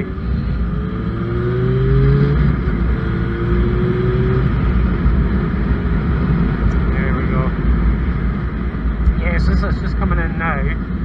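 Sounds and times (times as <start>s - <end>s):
motorcycle engine accelerating: 0.0s - 9.8s
wind rumble on microphone: 0.0s - 11.0s.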